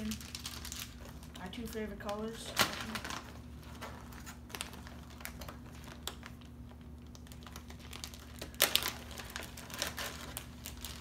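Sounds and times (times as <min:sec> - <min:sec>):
plastic bags rustling and crinkling: 0:00.0 - 0:11.0.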